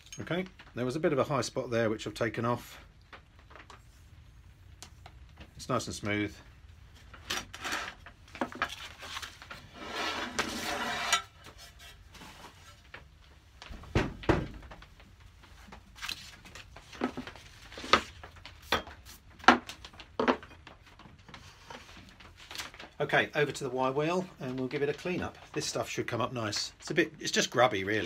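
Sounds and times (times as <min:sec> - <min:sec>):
abrasive paper rustling: 0:02.5 - 0:13.9, 0:14.6 - 0:28.0.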